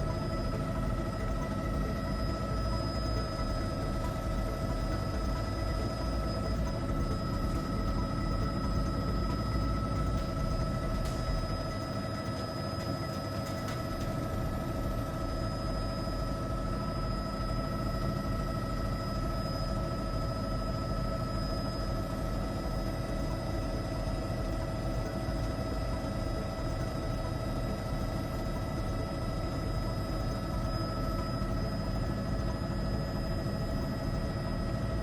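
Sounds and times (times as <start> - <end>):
helicopter rotor rumble: 0.0 - 35.0
turbine whine: 0.0 - 35.0.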